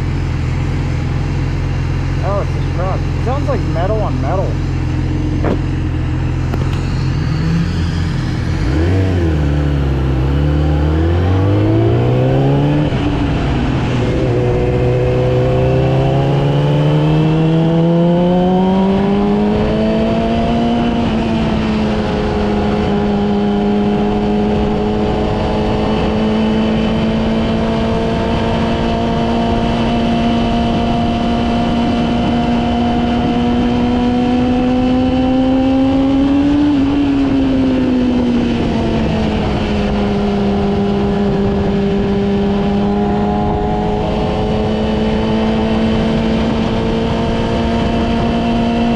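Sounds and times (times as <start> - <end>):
motorbike engine accelerating: 0.0 - 48.9
road and wind noise: 0.0 - 48.9.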